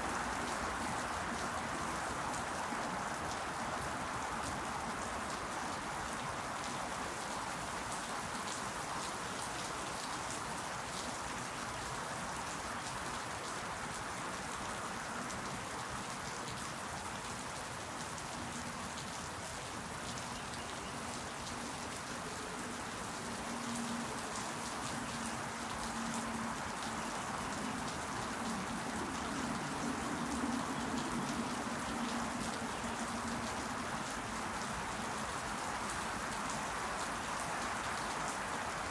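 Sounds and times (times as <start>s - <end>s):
rain falling: 0.0s - 38.9s
raindrops ticking on surfaces: 0.0s - 38.9s.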